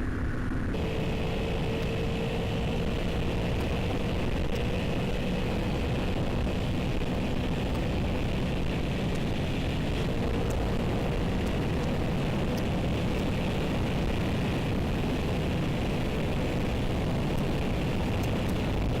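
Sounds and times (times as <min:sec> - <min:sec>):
motorcycle engine drone: 0:00.0 - 0:19.0
wind rushing over microphone: 0:00.0 - 0:19.0.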